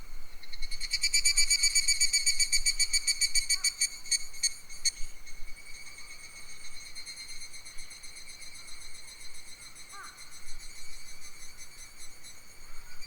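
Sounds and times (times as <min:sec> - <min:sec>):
insect call pulsing: 0:00.3 - 0:13.0.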